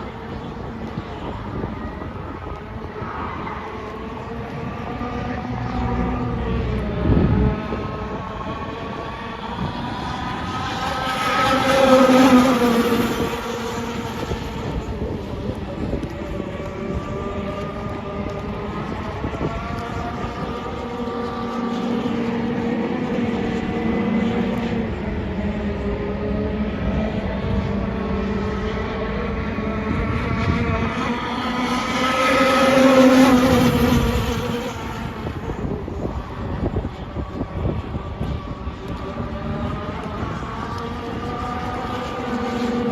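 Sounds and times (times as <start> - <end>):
model boat two-stroke engine: 3.8 - 42.9.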